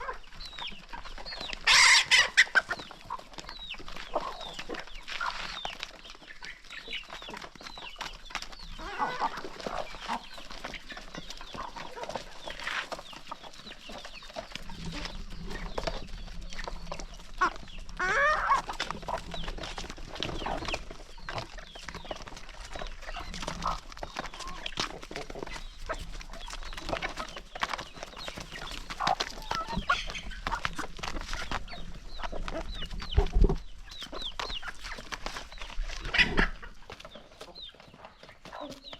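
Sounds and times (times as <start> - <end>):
beaks pecking at feed: 0.0 - 38.9
chickens clucking: 0.0 - 38.9.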